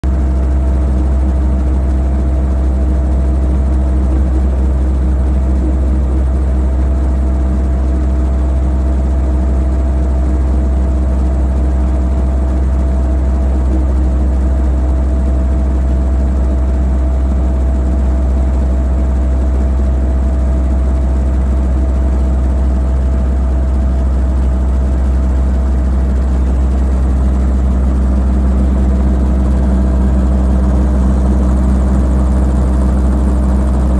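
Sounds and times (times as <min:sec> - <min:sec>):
low engine drone: 0:00.0 - 0:33.9.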